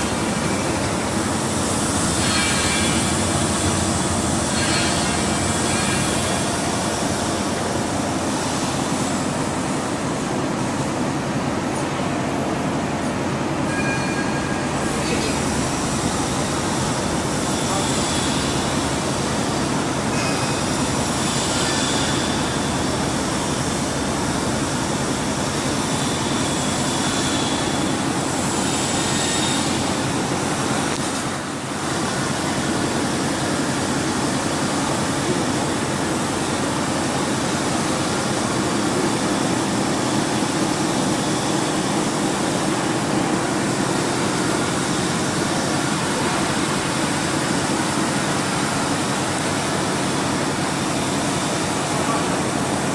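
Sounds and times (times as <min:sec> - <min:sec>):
machinery droning: 0:00.0 - 0:52.9.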